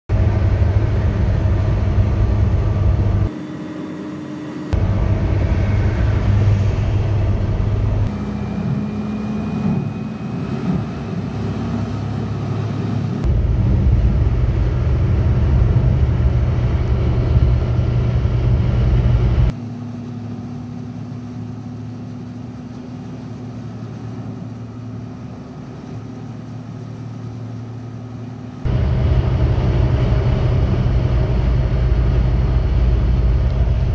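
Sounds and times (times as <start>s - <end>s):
car engine and tyre rumble: 0.1s - 33.9s.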